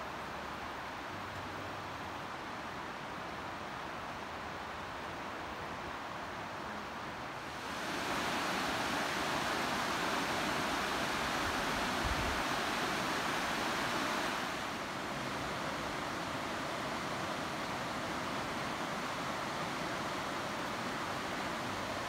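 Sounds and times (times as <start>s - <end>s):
river water over rapids: 0.0s - 22.0s.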